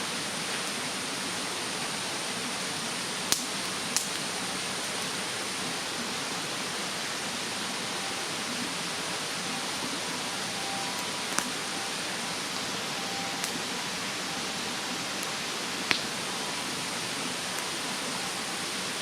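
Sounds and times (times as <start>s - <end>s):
mountain stream rushing: 0.0s - 19.0s
wood fire crackling: 2.6s - 19.0s.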